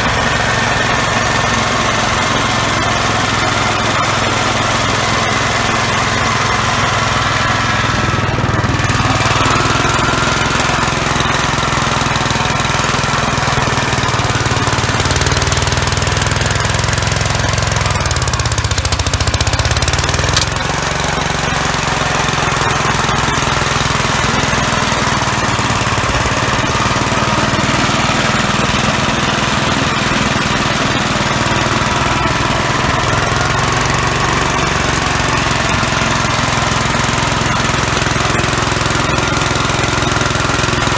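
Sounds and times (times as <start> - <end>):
single-cylinder engine running: 0.0 - 40.9.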